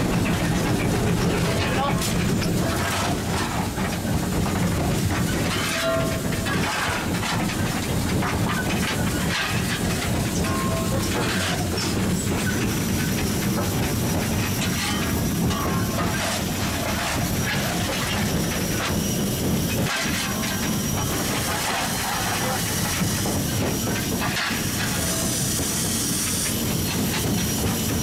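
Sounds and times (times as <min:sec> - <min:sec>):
coal shovel scraping and clattering: 0:00.0 - 0:28.0
steam locomotive running: 0:00.0 - 0:28.0.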